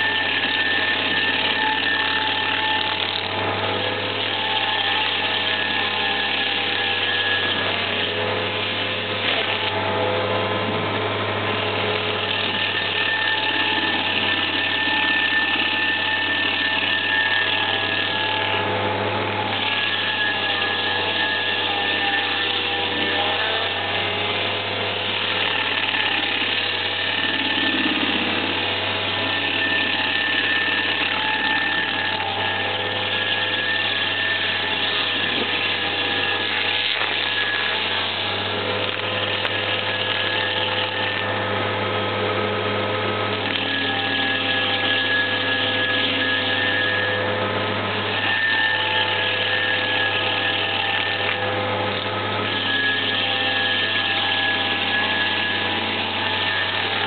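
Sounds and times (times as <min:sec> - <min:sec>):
constant whine: 0:00.0 - 0:57.0
grinder wheel chewing tree stump: 0:00.0 - 0:57.0.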